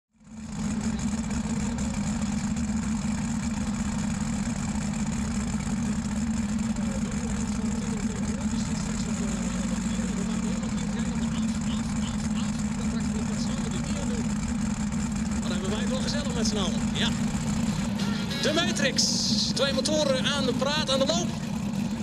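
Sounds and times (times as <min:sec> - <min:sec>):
tractor engines idling: 0:00.2 - 0:22.0.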